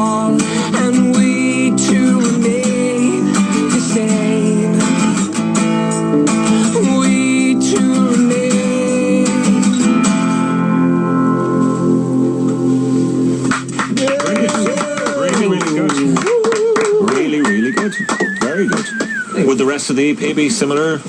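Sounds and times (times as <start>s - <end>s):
guitar-led band song: 0.0s - 21.0s.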